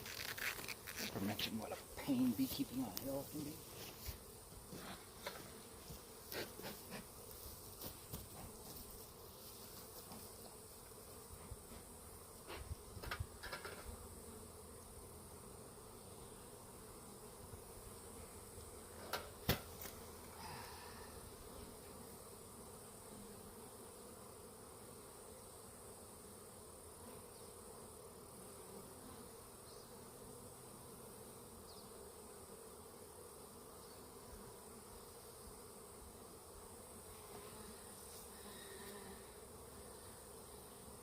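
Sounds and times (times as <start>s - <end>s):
honeybees buzzing: 0.0s - 41.0s.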